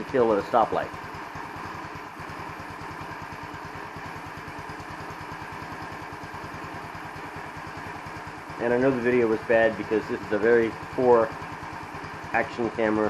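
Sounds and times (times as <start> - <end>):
scooter engine idling: 0.0 - 13.0.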